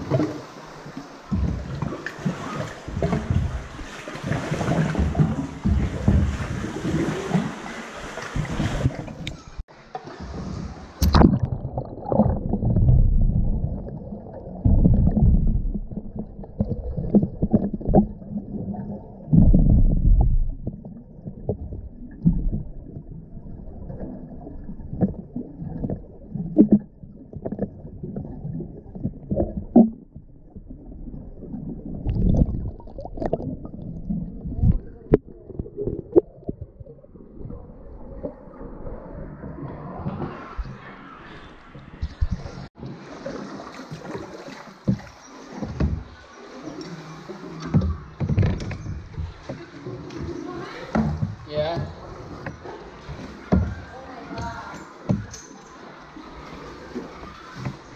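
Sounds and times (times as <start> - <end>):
underwater water sloshing: 0.0 - 57.9.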